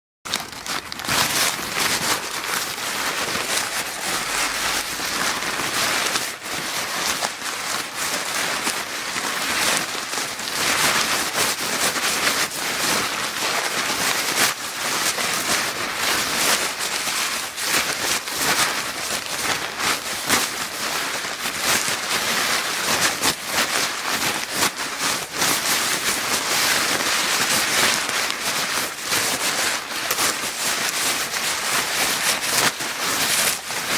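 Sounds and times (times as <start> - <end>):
paper bag crinkling: 0.3 - 33.9.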